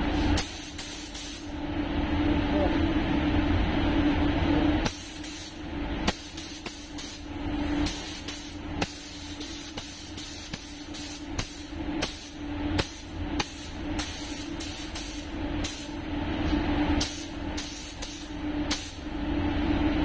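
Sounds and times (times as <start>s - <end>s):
ventilation hum: 0.0s - 20.0s.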